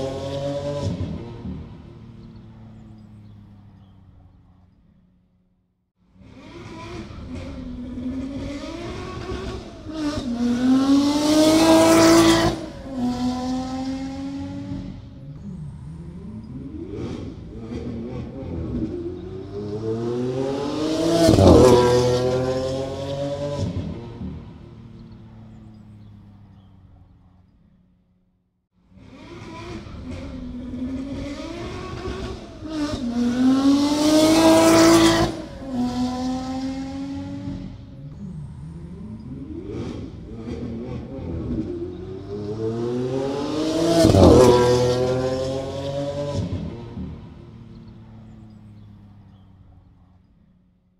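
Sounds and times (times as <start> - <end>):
sports car engine revving: 0.0 - 4.7, 6.2 - 27.4, 28.9 - 50.5.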